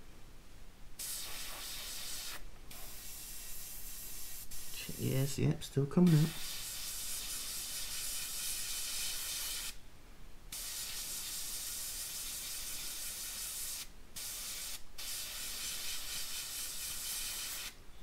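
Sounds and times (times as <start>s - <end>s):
airbrush hissing: 1.0s - 5.4s, 6.0s - 9.8s, 10.5s - 17.8s.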